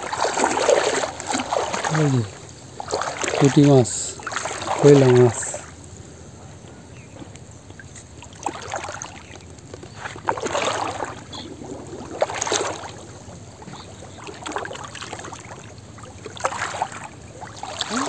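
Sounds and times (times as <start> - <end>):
man wading through water: 0.0 - 18.0
water sloshing and splashing: 0.0 - 18.0.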